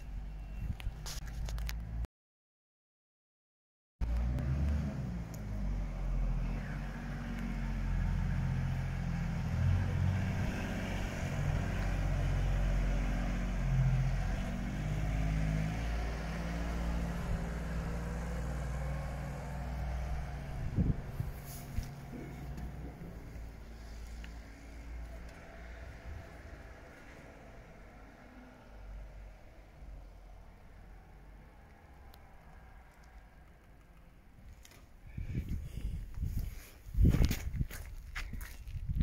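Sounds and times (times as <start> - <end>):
vehicle engine humming: 4.0 - 36.4.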